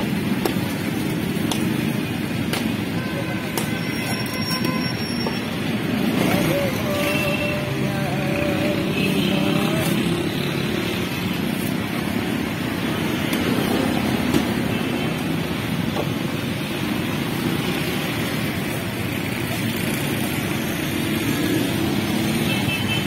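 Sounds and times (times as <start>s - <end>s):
motorcycles passing: 0.0s - 4.2s, 5.3s - 23.0s
motor traffic: 0.0s - 23.0s.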